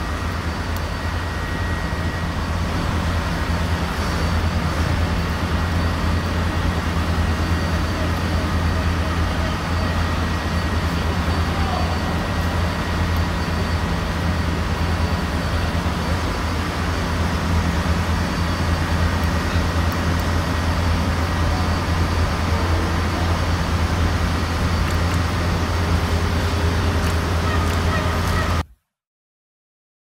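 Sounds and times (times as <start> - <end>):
diesel machinery rumbling: 0.0 - 28.6
faint high whine: 0.0 - 28.7.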